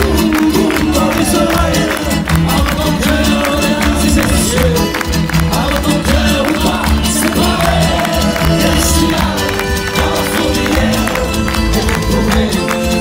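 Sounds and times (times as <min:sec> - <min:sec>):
accordion: 0:00.0 - 0:13.0
percussion beat: 0:00.0 - 0:13.0.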